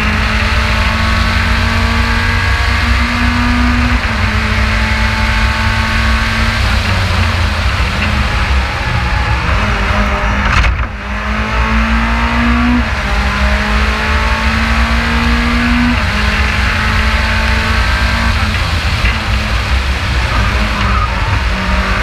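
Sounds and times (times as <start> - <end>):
race car engine accelerating: 0.0 - 22.0
wind and road rumble: 0.0 - 22.0.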